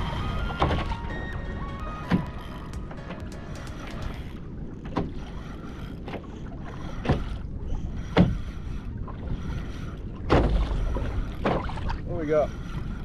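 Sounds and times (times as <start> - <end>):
rush of wind and water: 0.0 - 13.0
waves slapping against a hull: 0.0 - 13.0.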